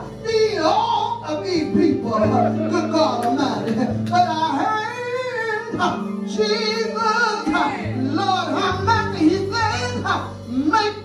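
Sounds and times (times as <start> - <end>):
electric keyboard chords: 0.0 - 11.0.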